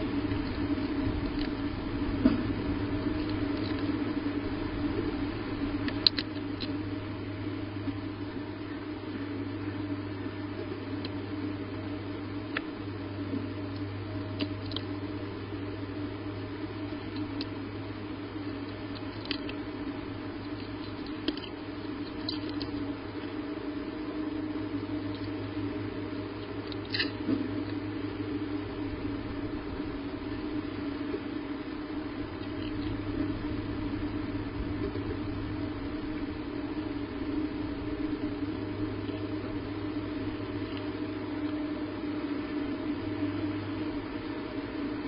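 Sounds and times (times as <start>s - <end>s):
microphone hum and hiss: 0.0s - 45.0s.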